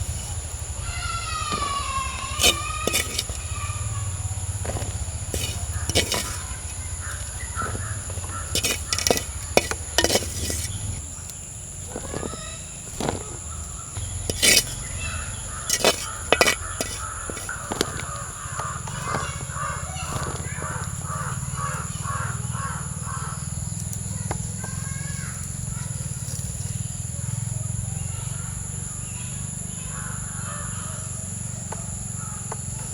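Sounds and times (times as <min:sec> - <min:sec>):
birds calling: 0:00.0 - 0:32.9.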